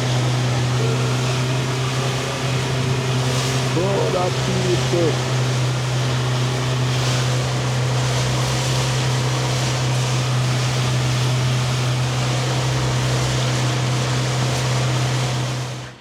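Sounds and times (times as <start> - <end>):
rushing water: 0.0 - 15.8
boat engine running steadily: 0.0 - 16.0.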